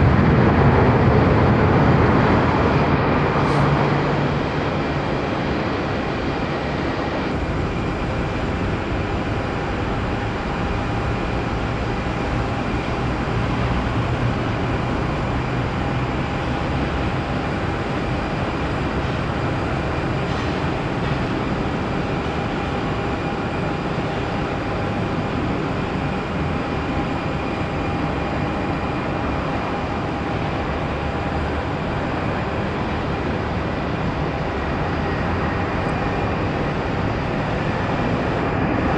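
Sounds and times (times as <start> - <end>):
faint constant whine: 0.0 - 38.9
jet engines running: 0.0 - 38.9.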